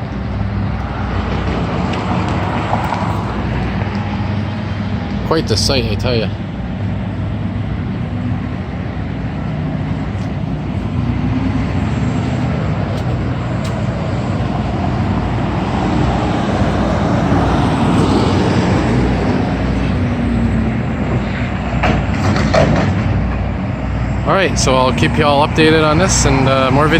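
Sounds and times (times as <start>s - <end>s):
heavy vehicle engines rumbling: 0.0s - 26.9s
traffic noise: 0.0s - 26.9s.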